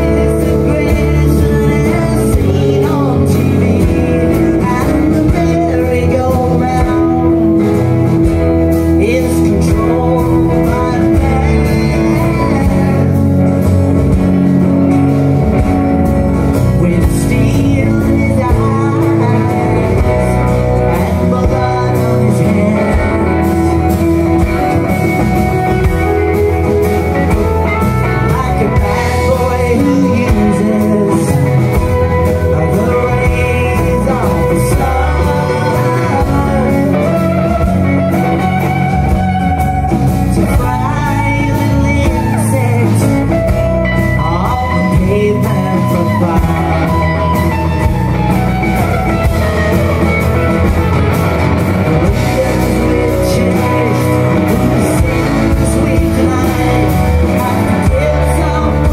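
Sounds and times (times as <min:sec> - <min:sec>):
live country rock band playing: 0:00.0 - 0:58.9.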